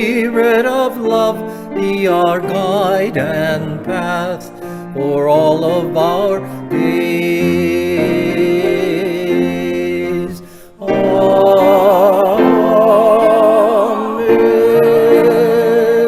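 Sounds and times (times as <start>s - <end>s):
person singing with vibrato: 0.0s - 16.0s
sustained accompaniment: 1.8s - 16.0s.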